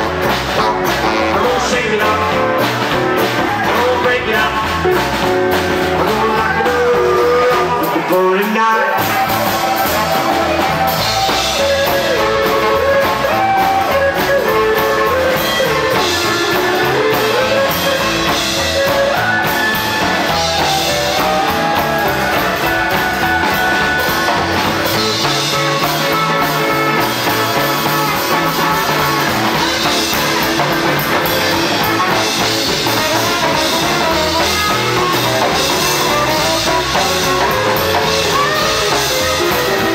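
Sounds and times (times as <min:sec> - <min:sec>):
drum kit: 0:00.0 - 0:39.9
electric guitars: 0:00.0 - 0:39.9
upright double bass: 0:00.0 - 0:39.9.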